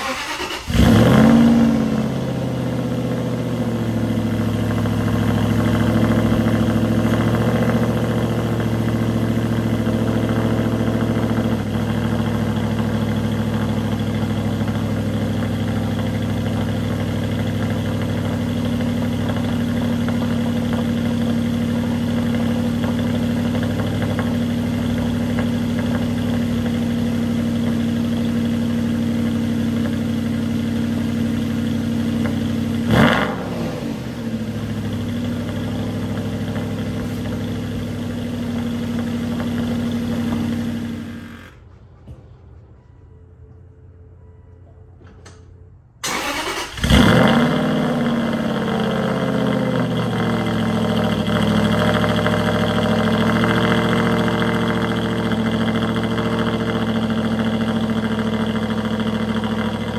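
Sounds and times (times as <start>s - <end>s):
car engine idling fast: 0.0s - 41.4s, 46.9s - 59.9s.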